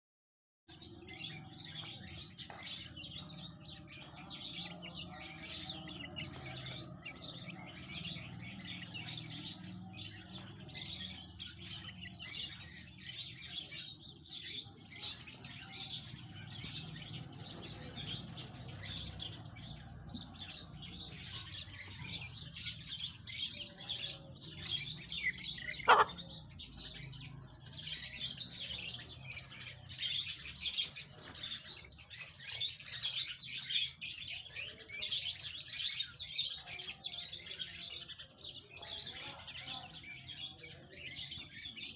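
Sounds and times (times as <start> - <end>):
small birds chirping: 0.7 - 41.9.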